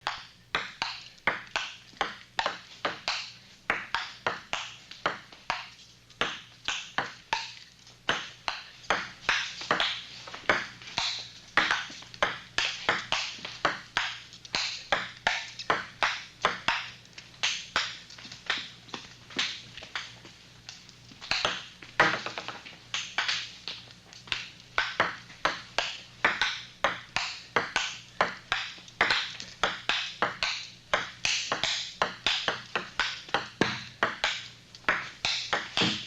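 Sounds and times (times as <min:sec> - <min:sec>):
table tennis ball clicking: 0:00.1 - 0:18.8, 0:19.4 - 0:36.0.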